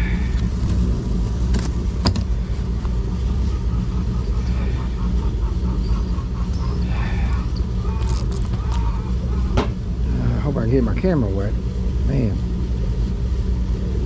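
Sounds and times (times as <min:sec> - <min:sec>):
rock tumbler motor hum: 0:00.0 - 0:14.0.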